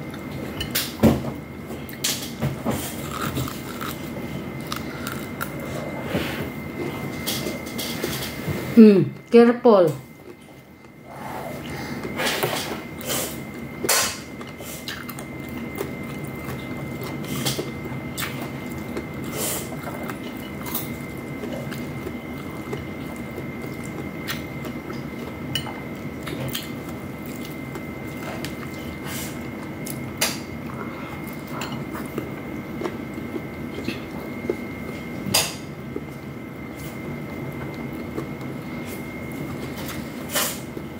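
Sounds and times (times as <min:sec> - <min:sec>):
faint steady hum: 0:00.0 - 0:40.9
wet chewing and mouth sounds: 0:01.9 - 0:07.8, 0:10.0 - 0:40.9.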